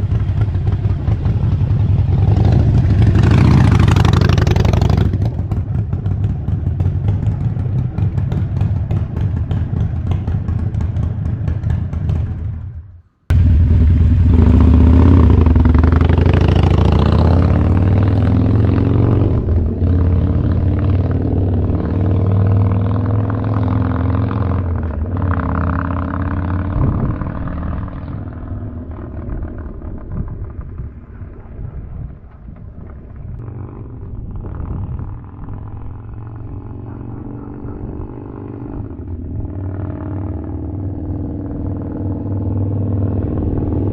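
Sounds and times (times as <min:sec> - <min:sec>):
motorcycle engine revving: 0:00.0 - 0:32.0, 0:32.7 - 0:43.9.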